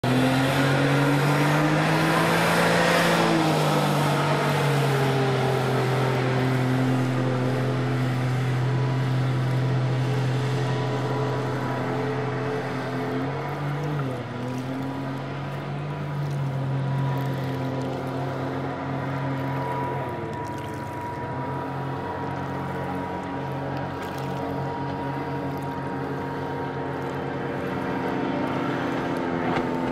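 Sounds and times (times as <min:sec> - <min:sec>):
boat engine drone: 0:00.0 - 0:29.9
rushing water: 0:00.0 - 0:29.9.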